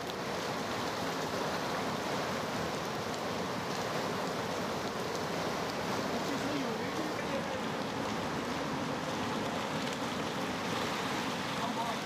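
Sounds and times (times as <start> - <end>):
turbulent river water rushing: 0.0 - 12.0.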